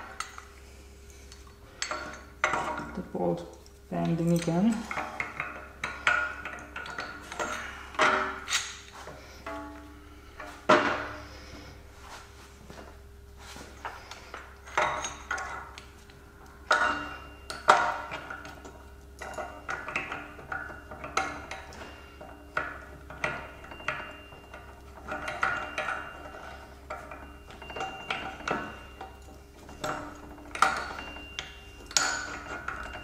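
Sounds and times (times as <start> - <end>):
hand tools clanking on metal: 1.3 - 3.1, 4.0 - 11.3, 13.8 - 15.9, 16.6 - 33.0.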